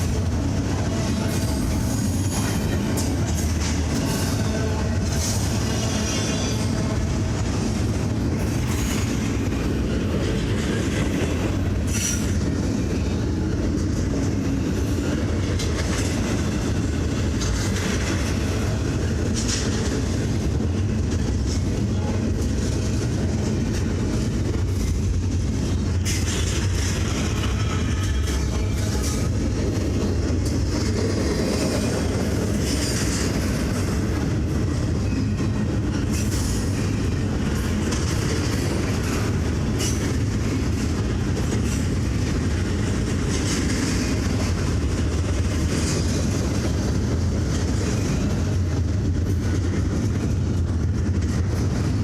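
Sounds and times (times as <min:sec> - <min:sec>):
train wheels clattering on rail: 0:00.0 - 0:52.0.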